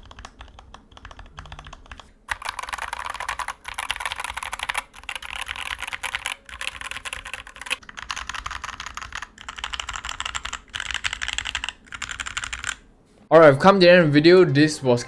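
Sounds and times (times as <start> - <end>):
mechanical keyboard typing: 0.0 - 12.8.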